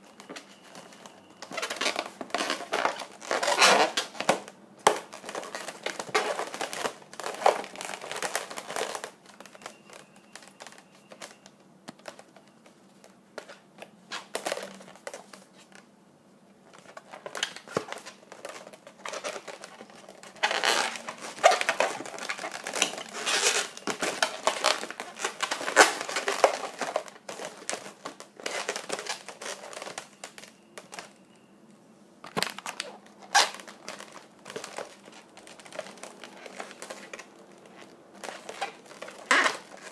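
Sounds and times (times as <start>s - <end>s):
balloons rubbing and squeaking: 0.0s - 4.2s, 5.0s - 11.4s, 17.0s - 31.2s, 32.6s - 39.9s.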